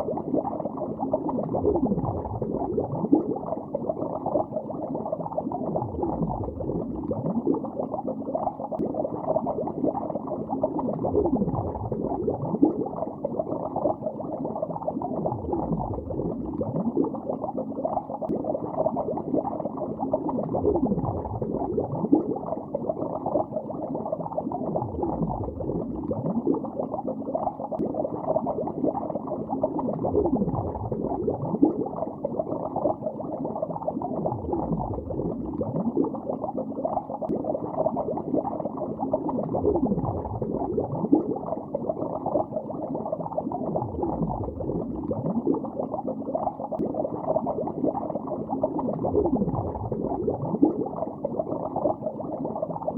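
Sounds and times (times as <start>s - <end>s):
underwater bubbling: 0.0s - 52.9s.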